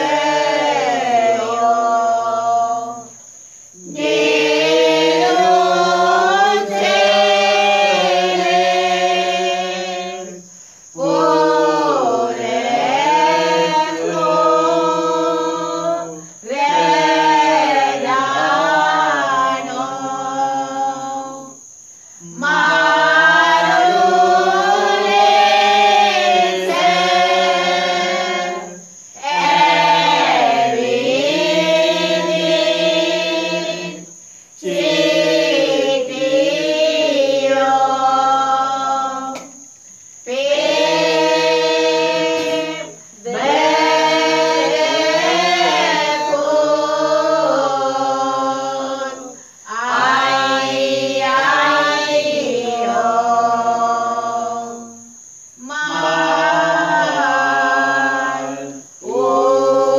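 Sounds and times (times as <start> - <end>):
group singing a hymn unaccompanied: 0.0 - 59.9.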